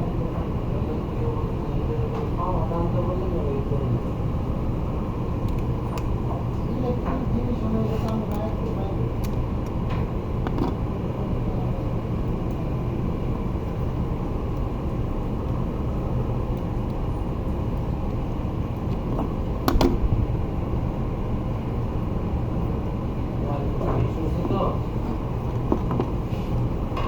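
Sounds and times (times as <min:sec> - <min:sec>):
faint hum: 0:00.0 - 0:27.0
low background rumble: 0:00.0 - 0:27.0.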